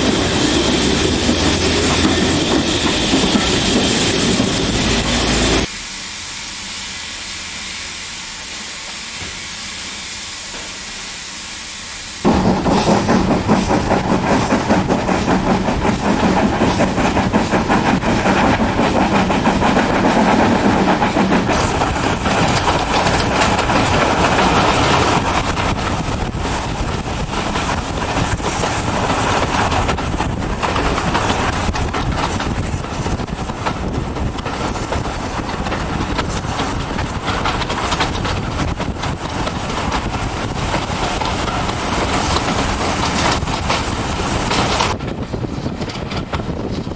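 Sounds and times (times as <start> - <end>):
train clattering: 0.0 - 5.7, 12.2 - 46.9
steam hissing: 0.0 - 45.0.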